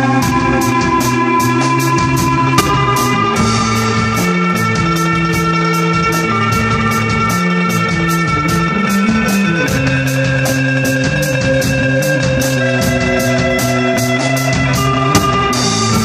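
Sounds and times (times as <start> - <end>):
instrumental rock band: 0.0 - 16.0
steady cymbal beat: 0.0 - 16.0.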